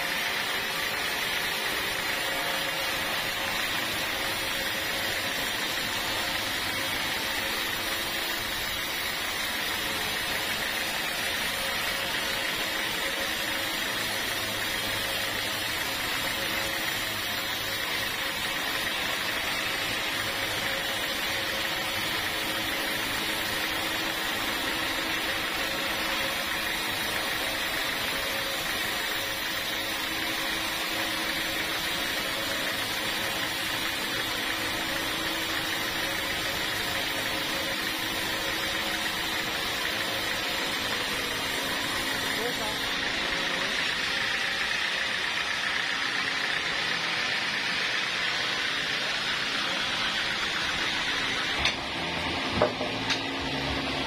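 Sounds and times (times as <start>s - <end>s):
saw high whine: 0.0s - 54.0s
sawmill machinery drone: 0.0s - 54.0s.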